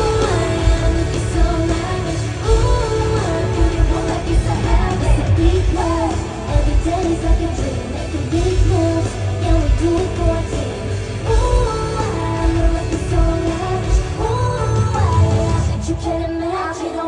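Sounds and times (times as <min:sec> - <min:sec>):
person singing: 0:00.0 - 0:17.0
pop music over sound system: 0:00.0 - 0:17.0.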